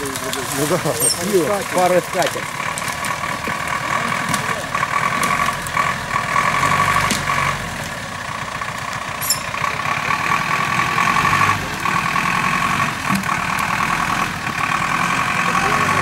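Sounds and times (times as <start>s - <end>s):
truck engine running at low speed: 0.0s - 16.0s.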